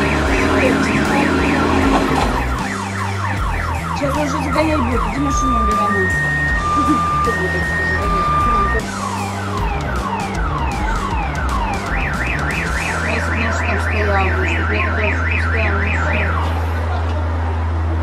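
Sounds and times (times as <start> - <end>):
car alarm chirping and warbling: 0.0 - 16.8.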